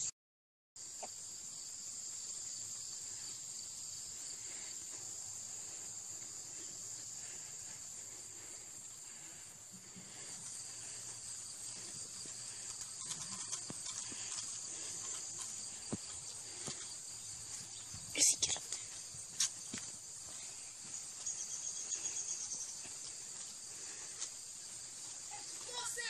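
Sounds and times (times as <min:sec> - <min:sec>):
insects buzzing: 0:00.8 - 0:26.0.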